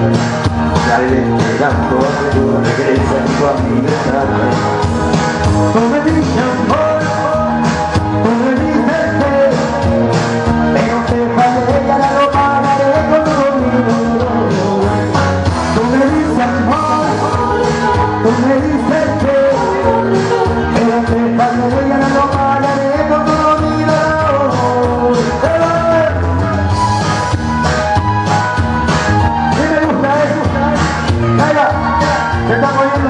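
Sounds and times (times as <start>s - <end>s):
man singing into microphone: 0.0s - 26.8s, 29.5s - 33.0s
amplified band music: 0.0s - 33.0s.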